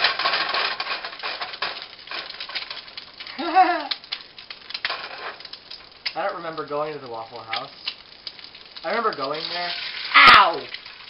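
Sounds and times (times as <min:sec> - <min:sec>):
hot oil crackling in a pan: 0:00.0 - 0:11.0.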